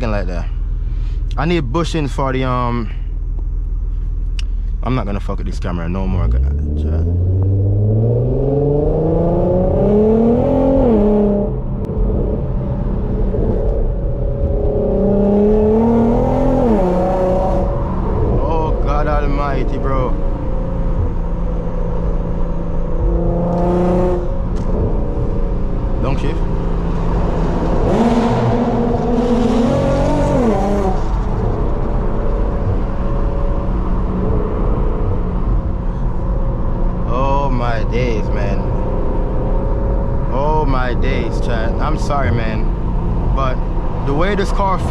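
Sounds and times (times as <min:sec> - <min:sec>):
car engine accelerating: 0:00.0 - 0:44.9
road rumble: 0:00.0 - 0:44.9.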